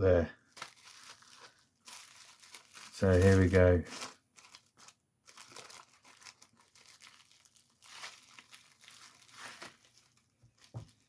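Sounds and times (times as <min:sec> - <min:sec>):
packaging crinkling and tearing: 0:00.4 - 0:11.0
packaging rustling: 0:00.4 - 0:11.0.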